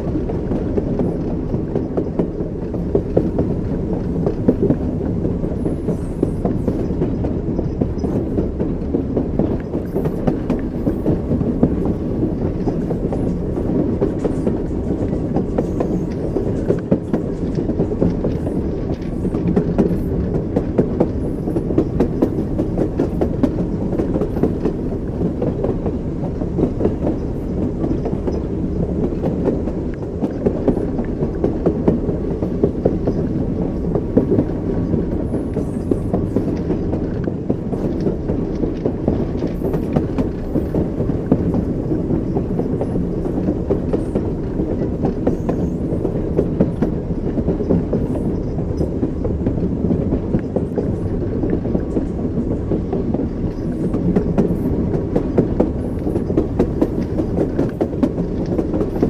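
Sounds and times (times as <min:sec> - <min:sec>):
railway car rumble: 0:00.0 - 0:59.0
train wheels clacking: 0:00.0 - 0:59.0.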